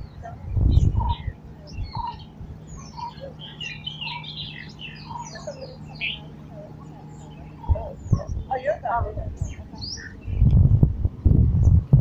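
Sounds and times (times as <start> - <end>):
birds chirping: 0.0 - 11.8
faint low hum: 0.0 - 12.0.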